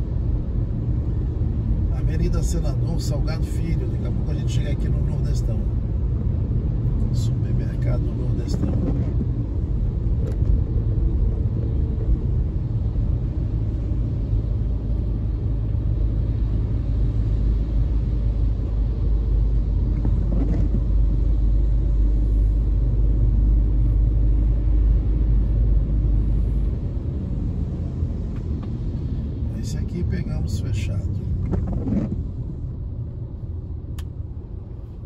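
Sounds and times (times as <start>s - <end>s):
car rumble from inside cabin: 0.0s - 35.0s.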